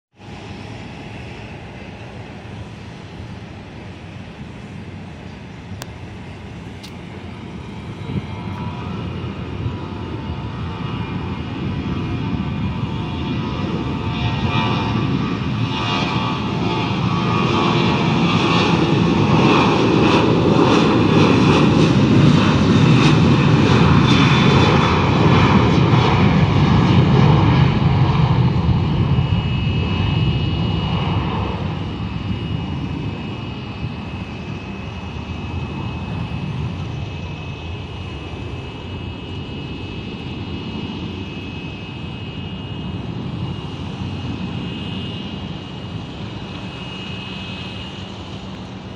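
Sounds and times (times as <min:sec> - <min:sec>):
jet engines roaring at takeoff: 0:00.1 - 0:48.9
steady high whine: 0:00.2 - 0:48.9.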